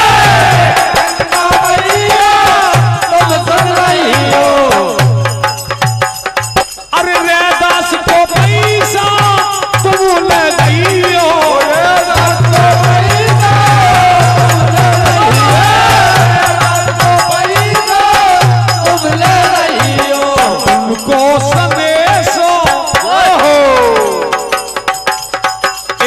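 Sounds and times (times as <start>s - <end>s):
hand drums: 0.0s - 26.0s
jingling rattling percussion: 0.0s - 26.0s.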